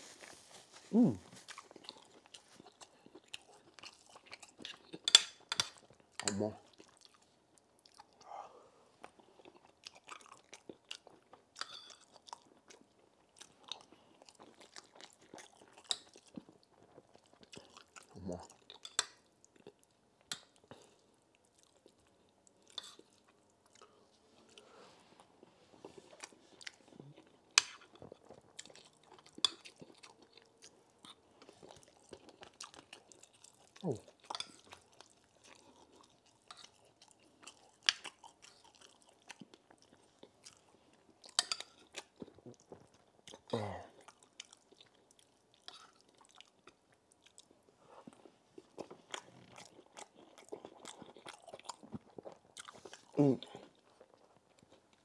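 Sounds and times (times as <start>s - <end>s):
man chewing food: 0.0s - 55.0s.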